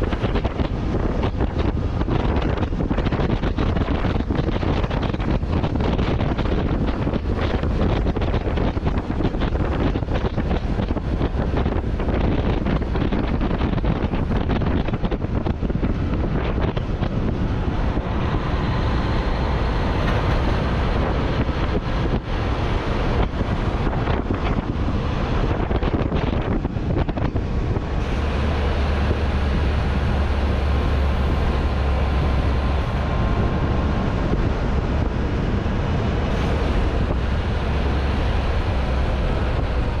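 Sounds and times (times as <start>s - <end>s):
truck engine rumble: 0.0s - 40.0s
tyres on road: 0.0s - 40.0s
wind buffeting microphone: 0.0s - 40.0s.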